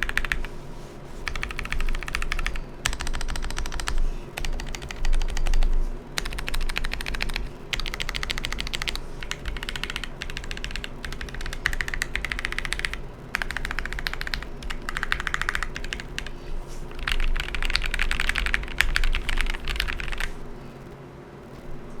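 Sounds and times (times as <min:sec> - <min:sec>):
mechanical keyboard typing: 0:00.0 - 0:00.5, 0:01.2 - 0:21.8.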